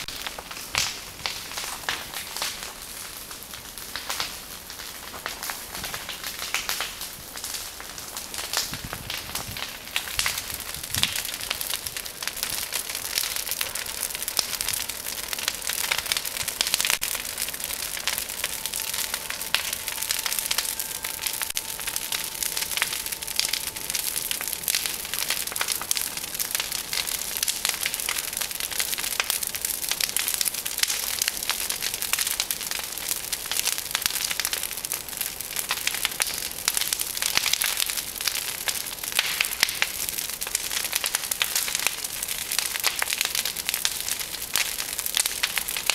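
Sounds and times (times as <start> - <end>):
bonfire crackling and snapping: 0.0 - 45.9.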